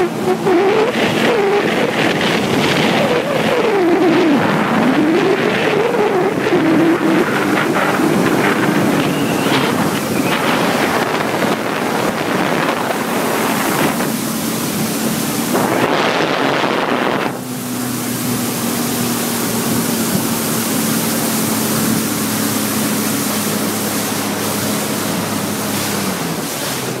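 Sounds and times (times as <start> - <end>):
motorboat engine running: 0.0 - 27.0
rushing water: 0.0 - 27.0
wind buffeting microphone: 0.0 - 27.0.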